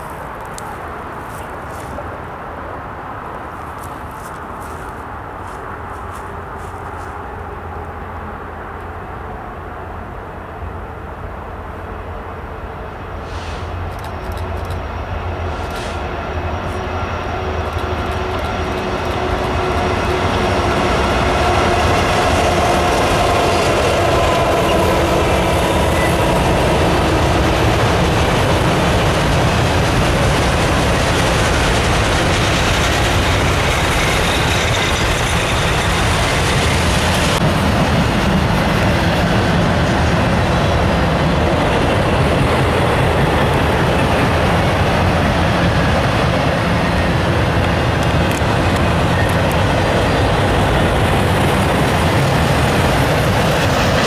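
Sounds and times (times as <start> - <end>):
diesel freight train passing: 0.0 - 54.0.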